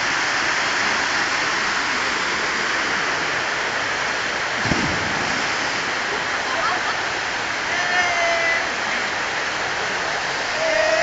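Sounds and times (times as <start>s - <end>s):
waterfall roar: 0.0s - 11.0s.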